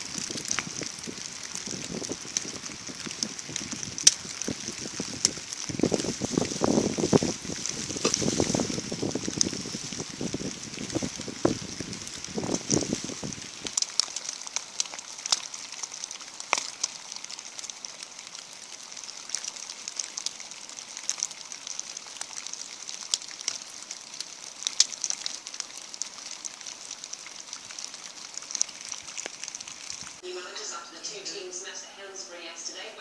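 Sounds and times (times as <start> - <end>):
raindrops ticking: 0.0 - 30.2
rain hissing: 0.0 - 33.0.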